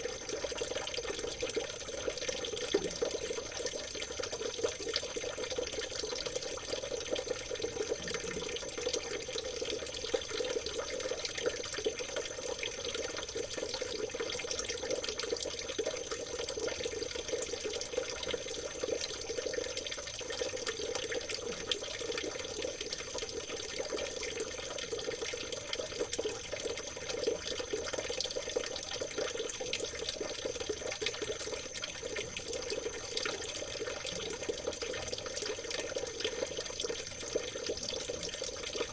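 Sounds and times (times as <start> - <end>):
stream water trickling and splashing: 0.0 - 38.9.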